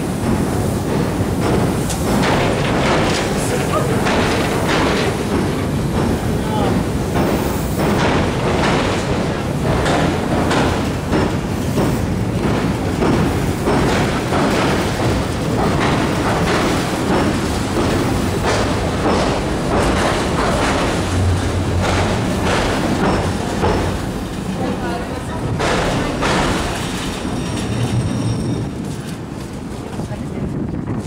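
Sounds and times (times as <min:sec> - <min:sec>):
train rumbling over bridge: 0:00.0 - 0:31.0
wheels clacking over rails: 0:00.0 - 0:31.0.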